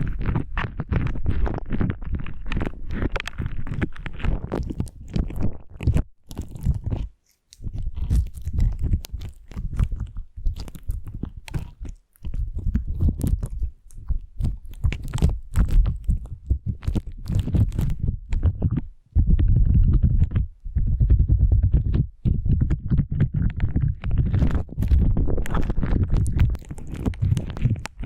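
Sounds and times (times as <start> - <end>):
slime squished by hand: 0.0 - 28.0.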